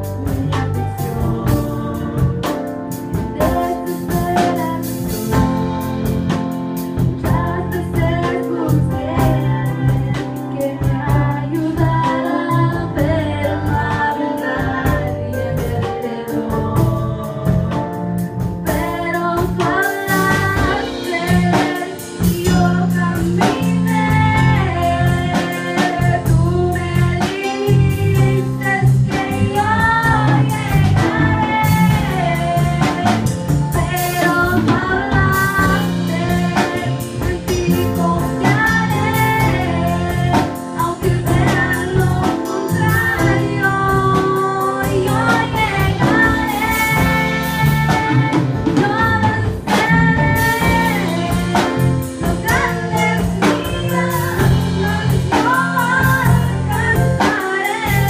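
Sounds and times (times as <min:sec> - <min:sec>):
instrumental accompaniment with bass: 0:00.0 - 0:58.0
girl singing into a microphone: 0:07.2 - 0:17.8, 0:18.7 - 0:58.0.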